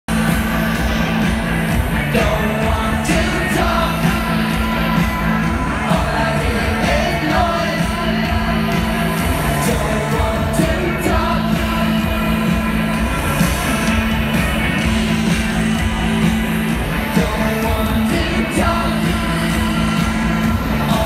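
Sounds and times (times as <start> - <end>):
live pop band: 0.1 - 21.0
pulsing bass line: 0.1 - 21.0
steady drums: 0.1 - 21.0
person singing: 1.9 - 14.4, 15.3 - 21.0.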